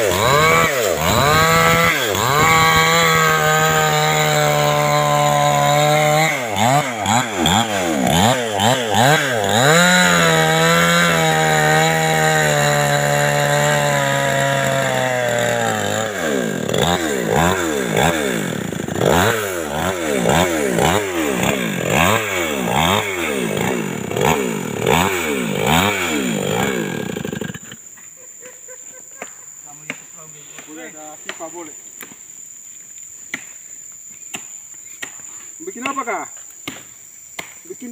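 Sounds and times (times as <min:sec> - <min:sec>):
chainsaw cutting log: 0:00.0 - 0:27.9, 0:34.3 - 0:37.6.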